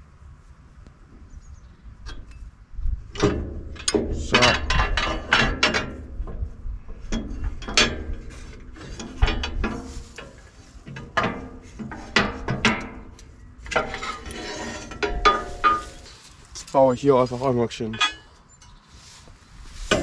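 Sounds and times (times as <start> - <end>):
metal scraping: 2.1 - 20.0.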